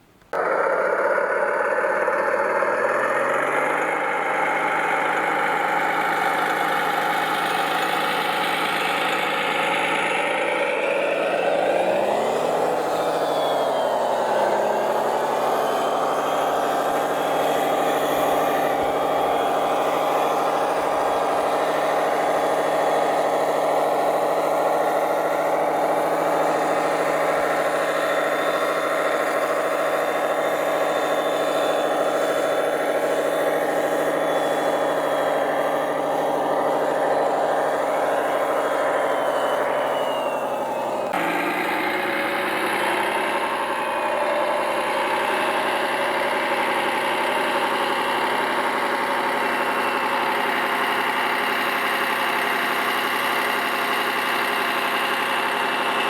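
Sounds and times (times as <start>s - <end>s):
faint high motor whine: 0.0s - 56.0s
toy engine drone: 0.3s - 56.0s.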